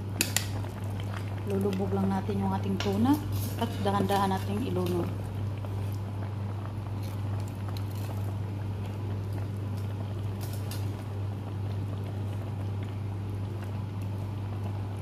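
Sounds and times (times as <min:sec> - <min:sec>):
steady low hum: 0:00.0 - 0:15.0
stew ticking and crackling: 0:00.0 - 0:15.0.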